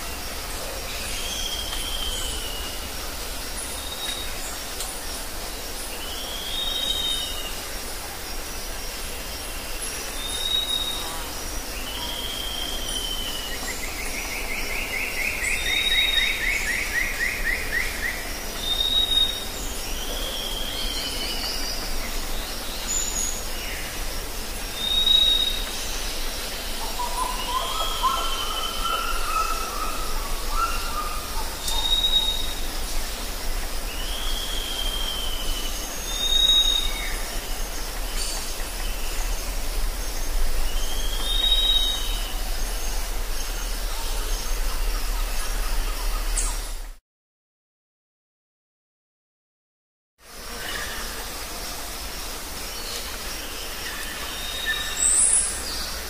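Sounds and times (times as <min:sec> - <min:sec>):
insects hissing: 0:00.0 - 0:46.9, 0:50.2 - 0:56.0.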